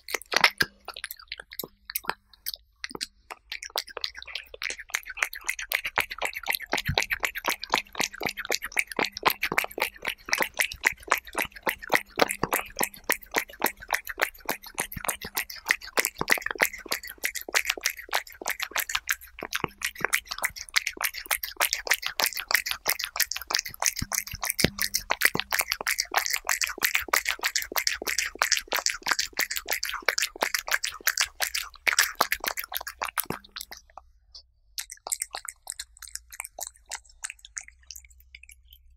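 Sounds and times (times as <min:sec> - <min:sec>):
cat licking and chewing: 0:00.0 - 0:34.1, 0:34.8 - 0:38.9.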